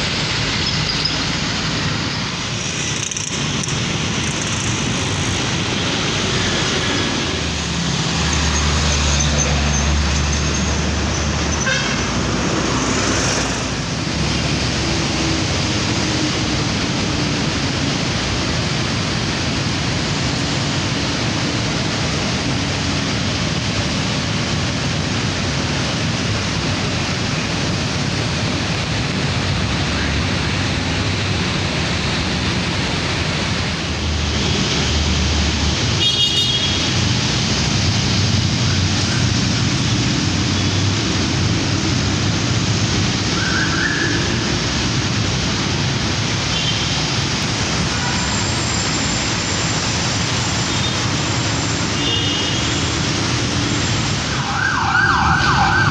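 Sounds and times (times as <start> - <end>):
heavy vehicle rumble: 0.0 - 54.4
road traffic passing: 0.0 - 55.9.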